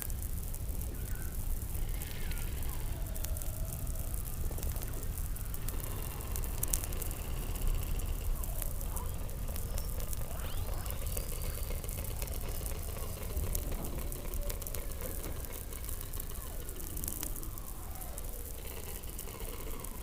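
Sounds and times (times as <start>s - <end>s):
faint gliding calls: 0.8s - 20.0s.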